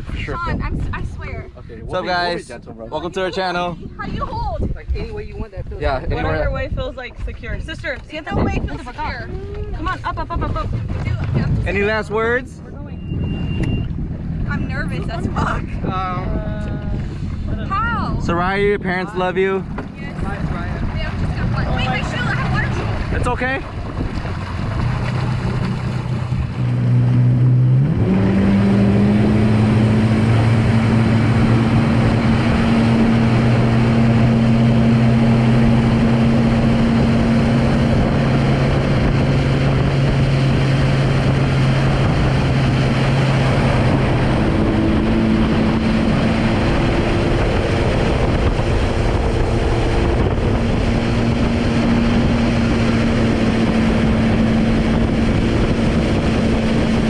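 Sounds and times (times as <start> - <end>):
boat engine revving: 0.0 - 4.8, 5.8 - 57.0
wind and water rushing: 0.0 - 57.0.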